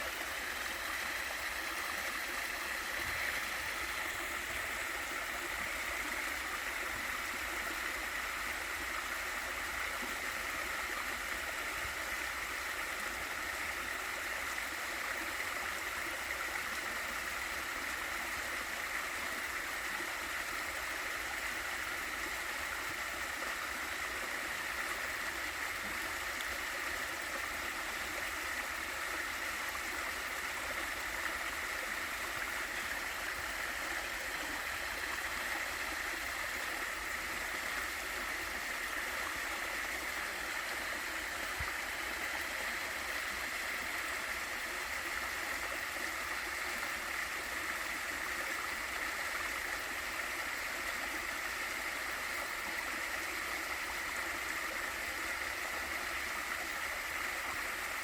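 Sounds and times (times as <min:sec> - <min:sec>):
small waterfall rushing and splashing: 0:00.0 - 0:58.0.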